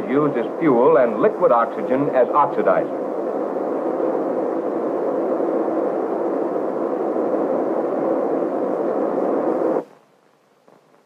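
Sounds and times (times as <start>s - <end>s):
rocket engine firing: 0.0s - 9.9s.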